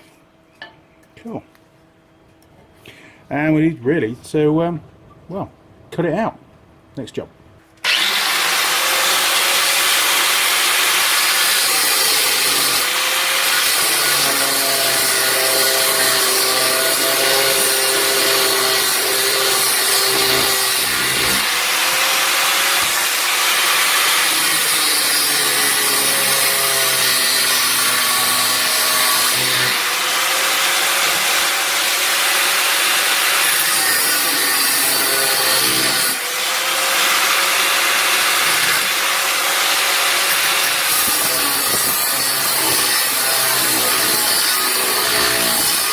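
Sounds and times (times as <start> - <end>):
power tool cutting steel: 7.8 - 45.9.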